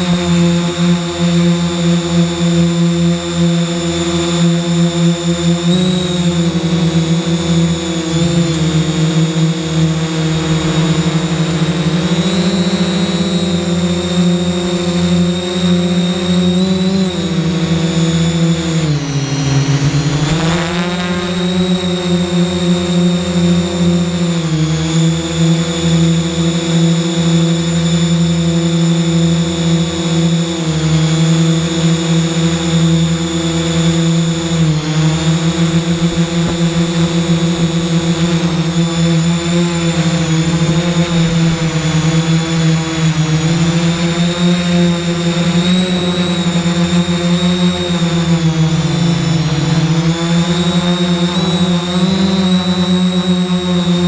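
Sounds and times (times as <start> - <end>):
drone motors humming: 0.0 - 54.0
high motor whine: 0.0 - 54.0.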